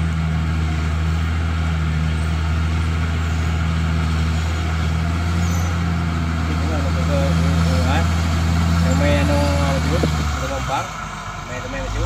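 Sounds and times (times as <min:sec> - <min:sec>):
bulldozer diesel engine under load: 0:00.0 - 0:12.0.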